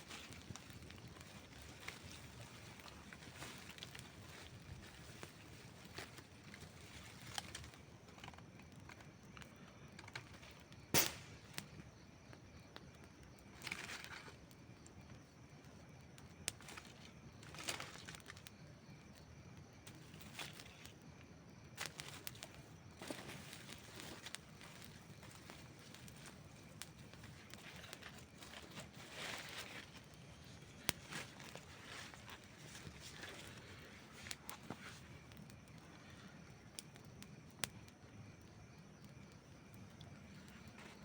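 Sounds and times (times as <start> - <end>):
campfire hissing: 0.0 - 41.0
fire crackling and popping: 0.0 - 41.0.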